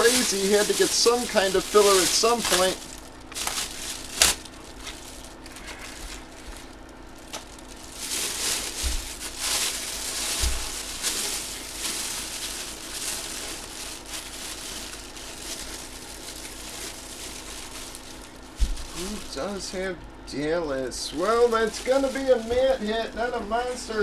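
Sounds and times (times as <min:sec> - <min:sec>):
packaging crinkling and rustling: 0:00.0 - 0:19.6, 0:21.1 - 0:24.0.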